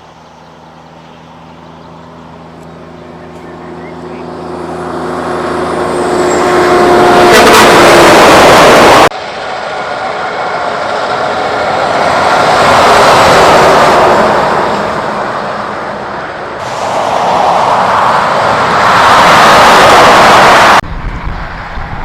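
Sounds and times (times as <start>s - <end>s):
heavy truck passing: 1.2s - 22.0s.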